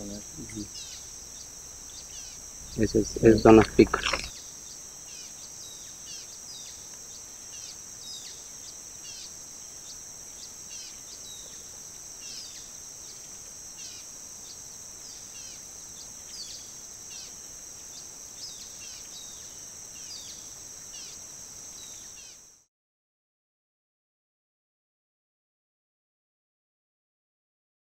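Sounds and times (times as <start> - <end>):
high insect drone: 0.0 - 22.7.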